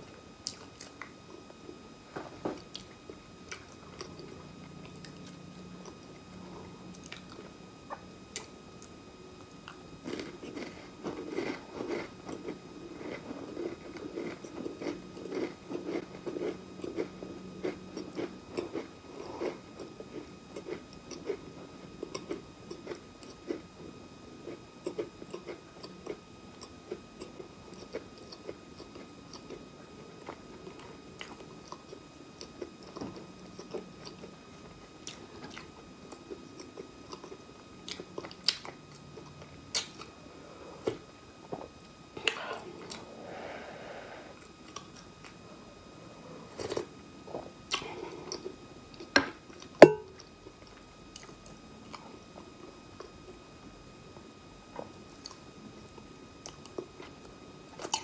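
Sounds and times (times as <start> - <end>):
chewing crunchy crackers: 0.4 - 40.2, 46.5 - 53.4, 54.7 - 58.0.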